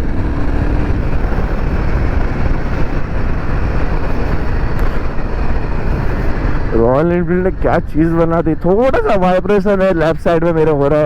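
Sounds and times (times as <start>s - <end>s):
wind rush on microphone: 0.0s - 11.0s.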